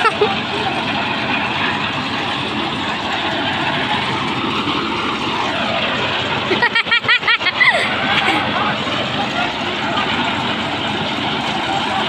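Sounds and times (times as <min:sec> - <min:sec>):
concrete mixer drone: 0:00.0 - 0:12.0.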